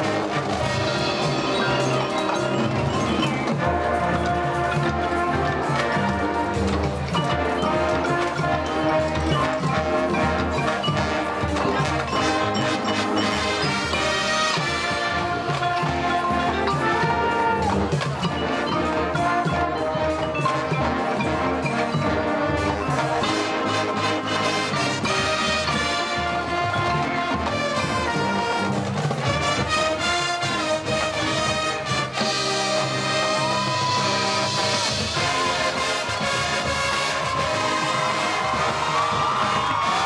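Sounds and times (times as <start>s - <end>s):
brass chords: 0.0s - 40.0s
mallet instruments: 0.0s - 40.0s
marching percussion: 0.0s - 40.0s.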